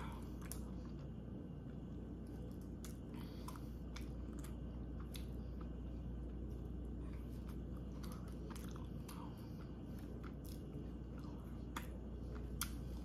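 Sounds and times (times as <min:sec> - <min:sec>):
biting and chewing: 0:02.1 - 0:13.0.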